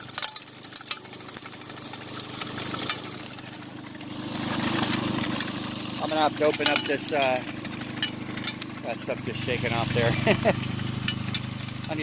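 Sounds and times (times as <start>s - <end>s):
gravel and rock rattling: 0.0s - 12.0s
small gas engine running: 0.0s - 12.0s.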